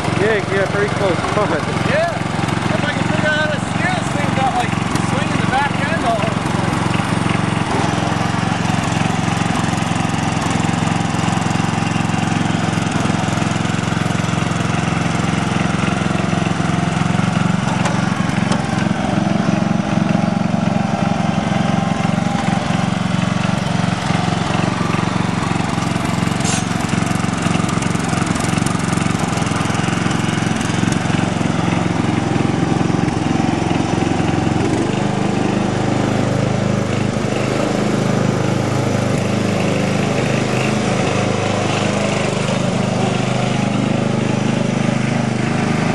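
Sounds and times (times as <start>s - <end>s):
lawn tractor engine running: 0.0s - 45.9s.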